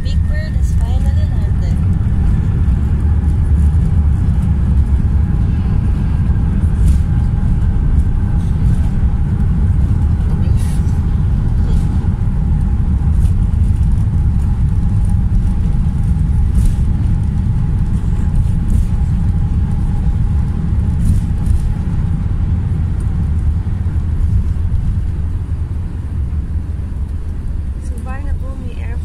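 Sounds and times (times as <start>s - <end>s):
airliner cabin rumble: 0.0s - 29.0s
faint steady whine: 0.0s - 29.0s.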